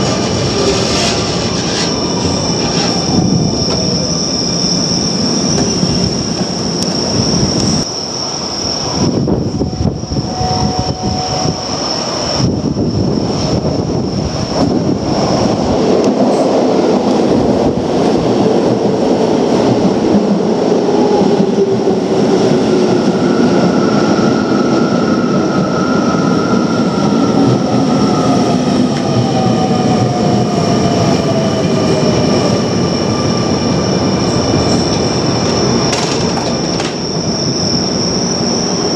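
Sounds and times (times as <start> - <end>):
train wheel and track rumble: 0.0 - 38.9.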